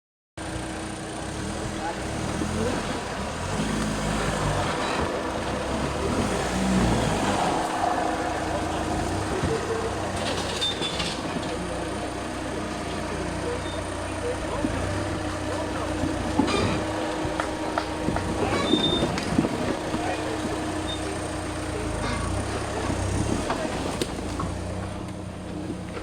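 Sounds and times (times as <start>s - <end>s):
off-road car engine: 0.4s - 26.0s.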